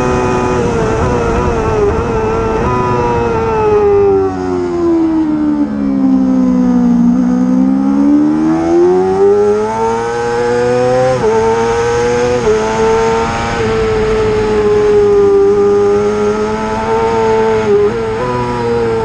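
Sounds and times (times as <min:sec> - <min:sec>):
racing motorcycle engine: 0:00.0 - 0:19.0.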